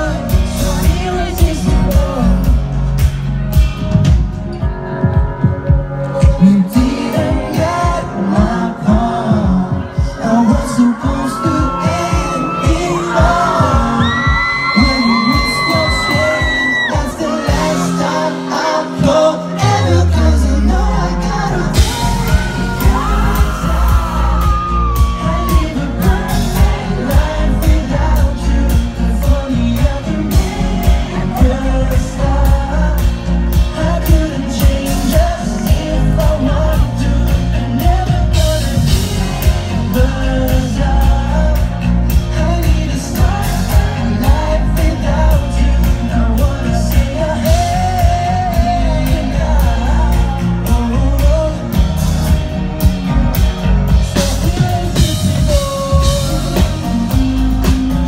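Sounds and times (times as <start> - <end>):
man singing into a microphone: 0.0 - 3.1, 5.0 - 52.4, 53.9 - 58.0
pop-rock band playing: 0.0 - 58.0.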